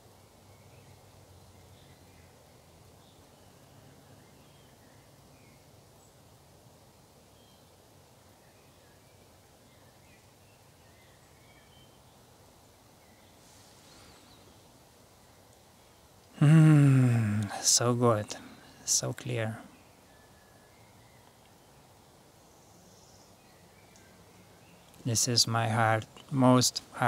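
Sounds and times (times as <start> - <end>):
faint woodland ambience: 0.0 - 27.0.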